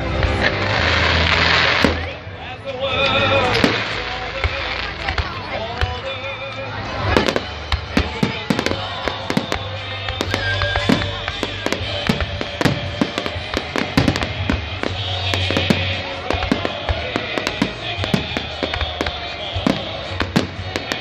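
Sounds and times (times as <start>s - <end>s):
fireworks bangs and pops: 0.0s - 2.3s, 2.9s - 21.0s
fireworks crackling: 0.0s - 21.0s
music: 0.0s - 21.0s.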